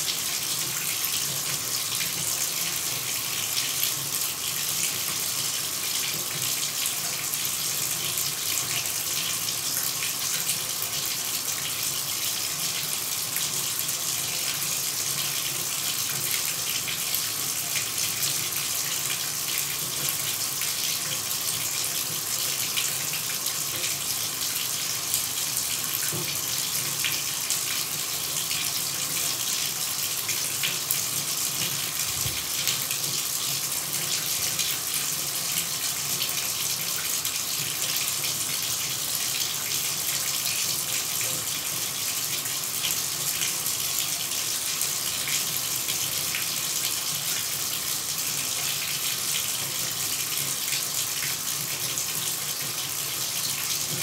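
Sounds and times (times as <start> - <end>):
shower running: 0.0 - 54.0.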